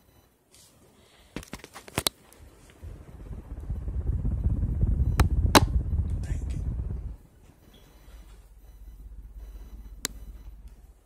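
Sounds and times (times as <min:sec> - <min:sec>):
ceiling fan air buffeting microphone: 0:00.6 - 0:11.0.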